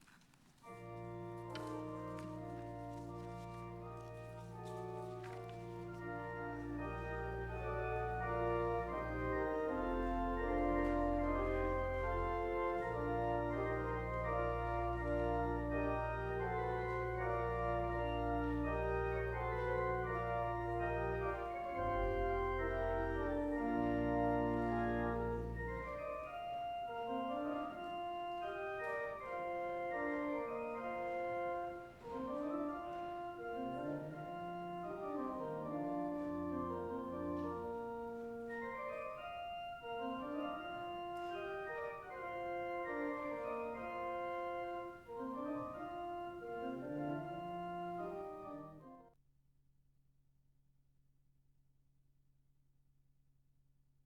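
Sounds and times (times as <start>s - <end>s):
organ chords: 0.6s - 49.1s
deep organ bass notes: 5.7s - 49.0s.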